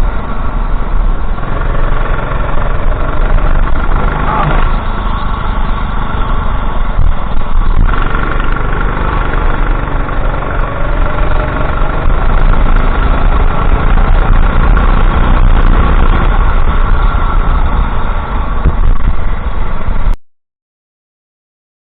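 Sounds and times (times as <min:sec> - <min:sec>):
go-kart engine running: 0:00.0 - 0:20.1.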